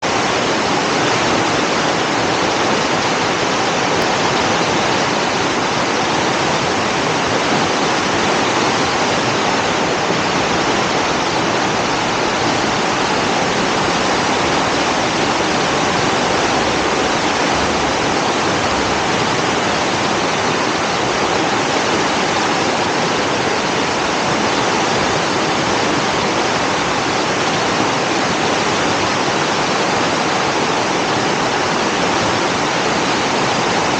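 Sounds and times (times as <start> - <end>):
flooded river rushing: 0.0 - 33.9.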